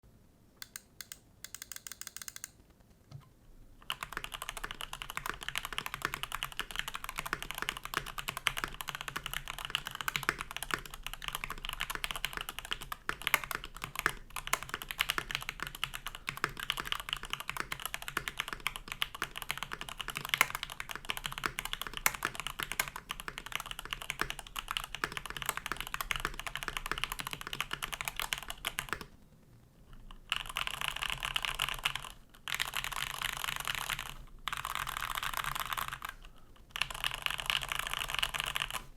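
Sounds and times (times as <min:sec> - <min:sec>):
typing on mechanical keyboard: 0:00.6 - 0:02.6, 0:03.8 - 0:29.2, 0:30.0 - 0:38.9.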